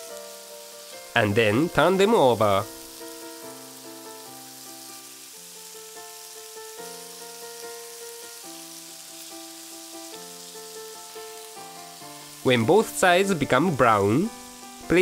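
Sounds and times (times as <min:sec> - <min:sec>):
meat sizzling in a frying pan: 0:00.0 - 0:15.0
soft background music: 0:00.0 - 0:15.0.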